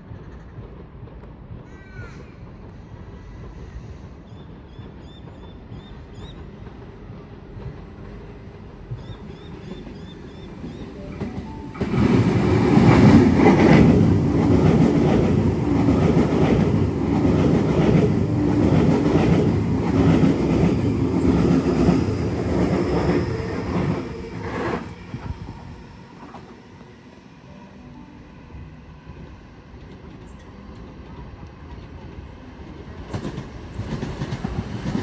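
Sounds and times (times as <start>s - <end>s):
electric train passing: 0.0s - 35.0s
wheels rumbling on rail: 0.0s - 35.0s.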